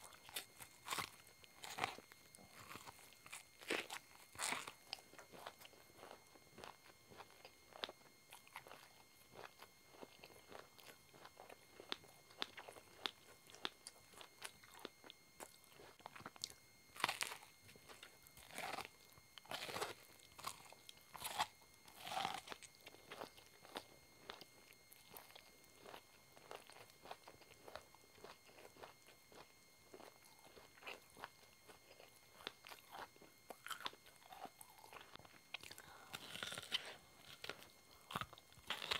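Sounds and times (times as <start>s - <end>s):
crunchy chewing of corn: 0.0s - 38.9s.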